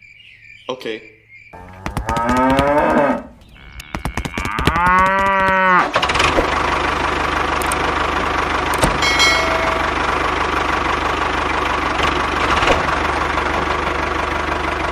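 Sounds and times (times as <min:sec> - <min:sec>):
engine idling with knock: 0:01.6 - 0:02.8, 0:03.9 - 0:14.9.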